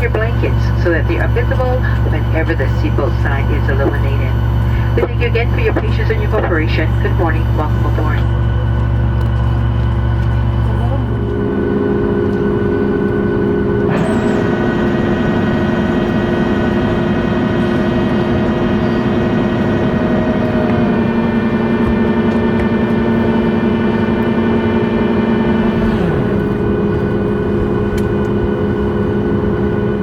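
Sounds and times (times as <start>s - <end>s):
jet engines heard from cabin: 0.0s - 30.0s.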